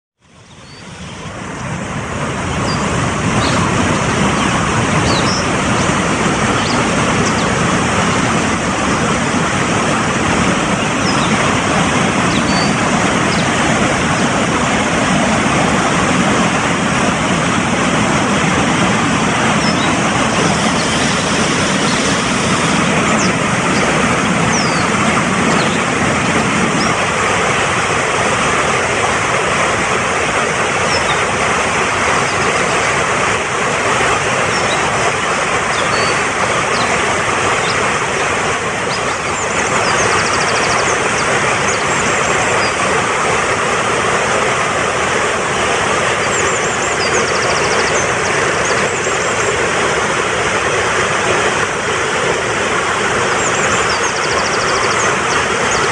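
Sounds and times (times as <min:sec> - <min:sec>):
stream rushing over rocks: 0:00.3 - 0:55.9.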